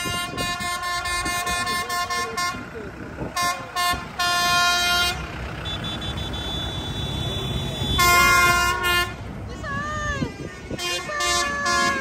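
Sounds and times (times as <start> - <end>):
tractor horn honking: 0.0 - 9.4, 10.3 - 12.0
tractor engines running: 0.0 - 12.0.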